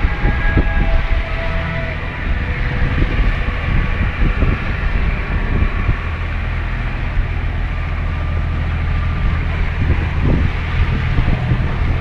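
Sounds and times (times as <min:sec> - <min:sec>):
steady low rumble: 0:00.0 - 0:12.0
water rushing past hull: 0:00.0 - 0:12.0
wind buffeting microphone: 0:00.0 - 0:12.0.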